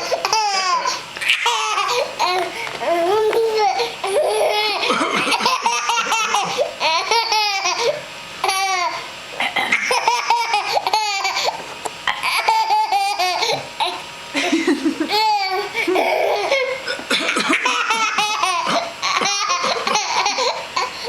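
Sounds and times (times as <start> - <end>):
baby laughing: 0.0 - 9.0, 9.7 - 21.0.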